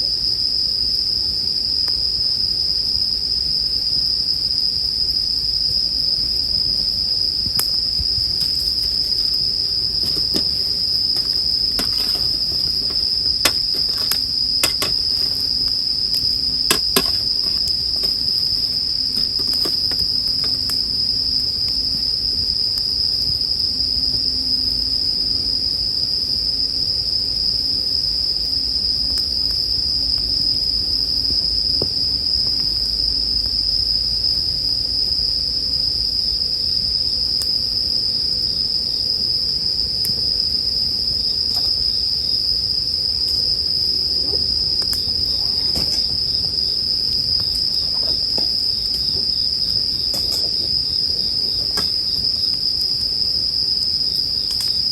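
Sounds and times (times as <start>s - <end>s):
campfire rumble and crackles: 0.0s - 54.9s
crickets chirping: 0.0s - 54.9s.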